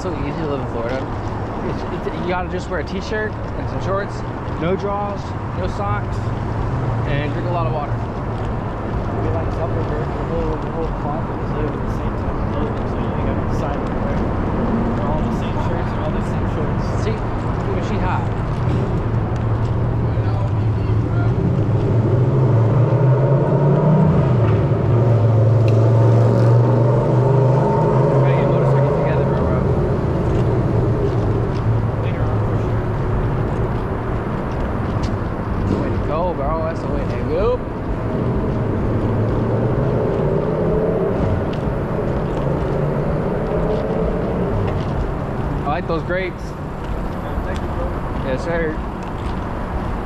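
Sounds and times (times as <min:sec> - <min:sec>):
car engine drone: 0:00.0 - 0:50.0
road noise inside moving car: 0:00.0 - 0:50.0.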